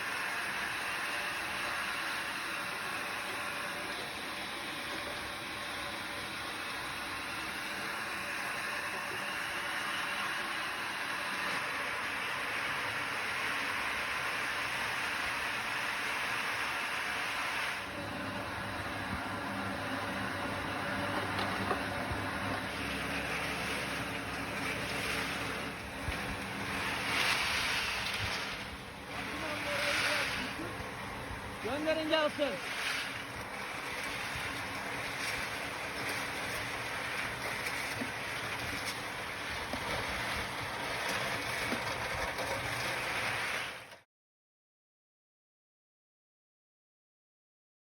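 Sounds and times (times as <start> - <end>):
hulling machine rushing noise: 0.0 - 43.8.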